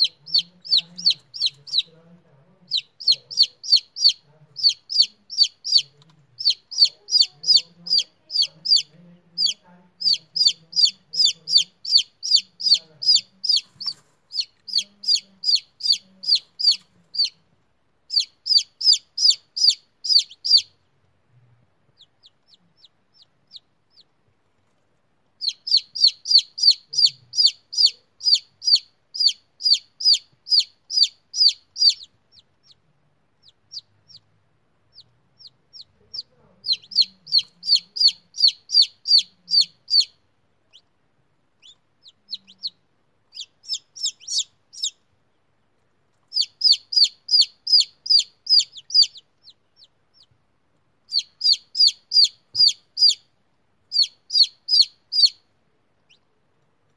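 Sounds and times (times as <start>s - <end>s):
chick peeping: 0.0s - 56.9s.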